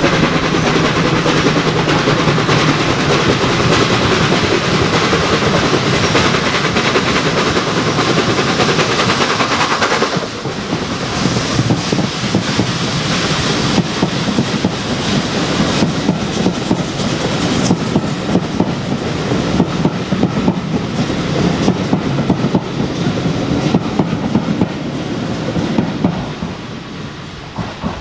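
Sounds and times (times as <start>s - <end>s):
train wheels clattering over joints: 0.0s - 28.0s.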